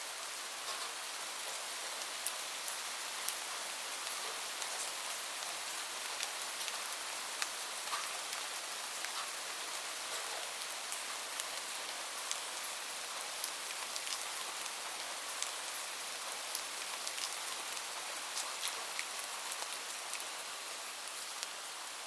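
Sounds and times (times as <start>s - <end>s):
steady rain hiss: 0.0s - 22.0s
raindrops ticking on a surface: 0.3s - 22.0s.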